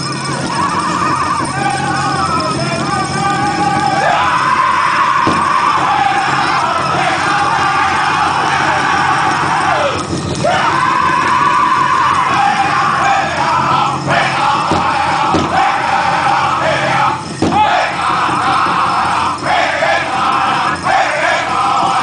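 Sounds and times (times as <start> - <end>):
big drum beating: 0.0 - 22.0
men singing high-pitched: 0.0 - 22.0.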